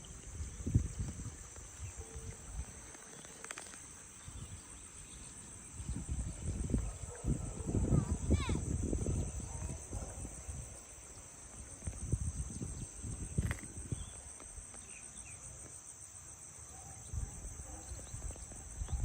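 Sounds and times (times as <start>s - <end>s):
insect chorus pulsing buzz: 0.0s - 19.0s.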